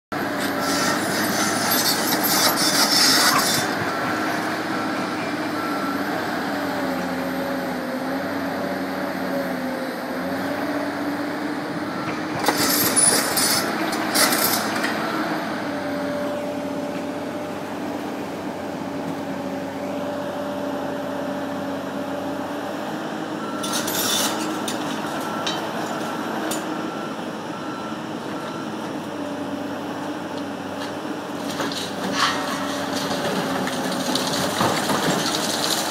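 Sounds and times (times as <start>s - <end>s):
excavator engine and hydraulics hum: 0.1s - 35.9s.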